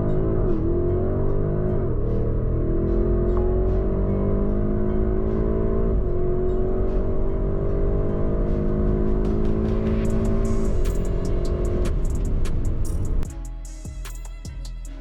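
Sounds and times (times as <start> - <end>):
car engine accelerating: 0.0 - 13.3.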